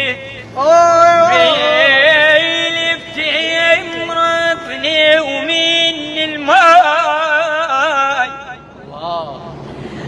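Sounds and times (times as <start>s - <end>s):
man singing: 0.0s - 9.6s.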